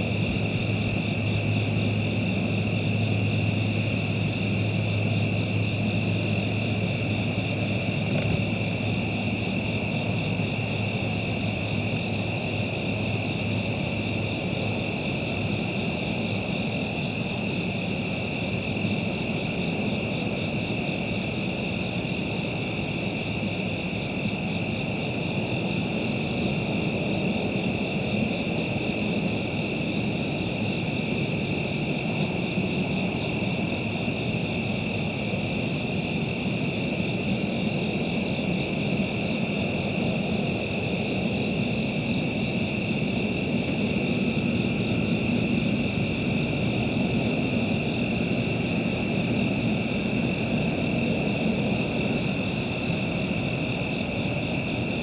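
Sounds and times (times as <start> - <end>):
night insects chorus: 0.0 - 55.0.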